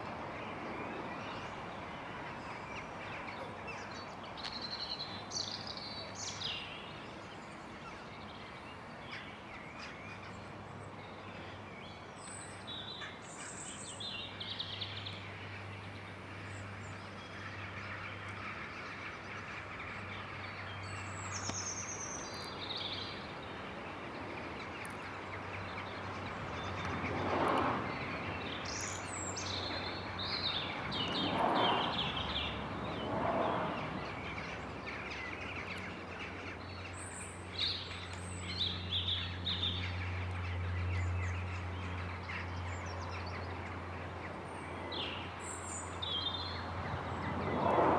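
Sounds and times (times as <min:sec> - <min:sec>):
birds chirping: 0:00.4 - 0:47.9.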